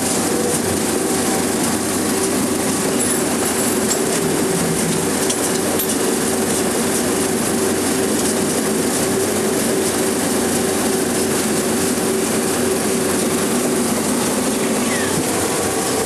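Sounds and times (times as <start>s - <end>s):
constant hum: 0.0s - 16.0s.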